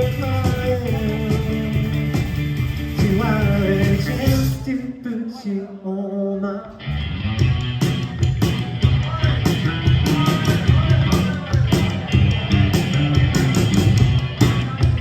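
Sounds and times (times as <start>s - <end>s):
distorted electric guitar: 0.0s - 4.7s, 6.7s - 15.0s
drum kit with busy cymbals: 0.0s - 4.7s, 7.4s - 15.0s
electric bass: 0.0s - 4.7s, 6.7s - 15.0s.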